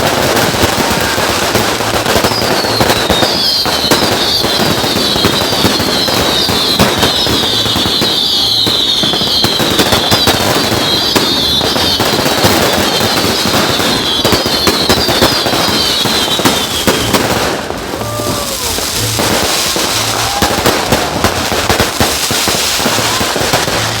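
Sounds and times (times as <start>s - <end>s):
falling firework whistle: 0.0s - 24.0s
fireworks crackling and popping: 0.0s - 24.0s.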